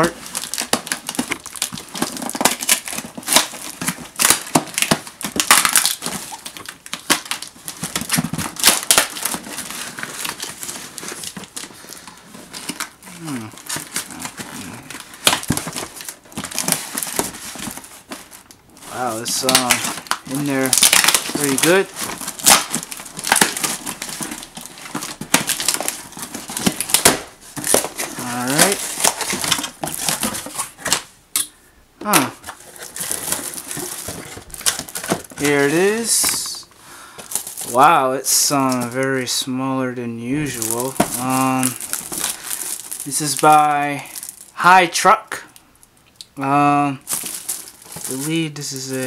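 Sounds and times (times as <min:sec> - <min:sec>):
packaging box crackling and crunching: 0:00.0 - 0:31.1, 0:32.0 - 0:39.5, 0:40.2 - 0:49.0.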